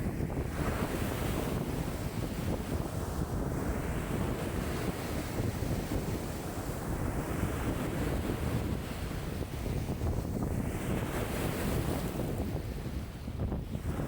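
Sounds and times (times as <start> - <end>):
lake waves washing: 0.0 - 14.0
wind buffeting microphone: 0.0 - 14.0.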